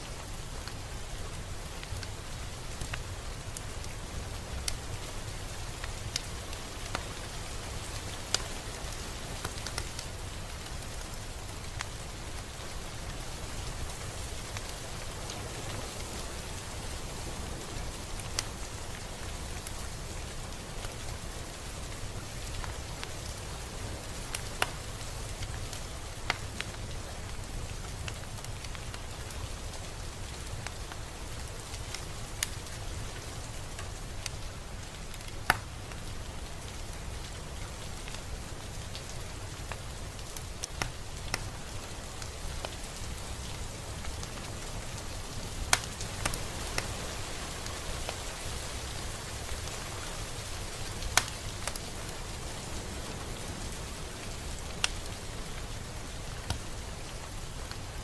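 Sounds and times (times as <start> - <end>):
raindrops striking close by: 0.0 - 58.0
steady rain falling: 0.0 - 58.0.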